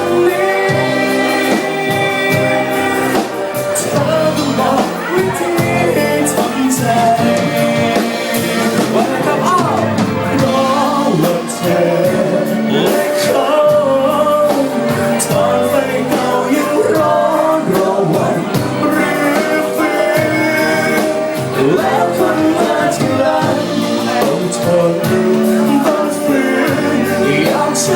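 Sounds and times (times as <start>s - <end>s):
pop band with drumbeat: 0.0s - 27.9s.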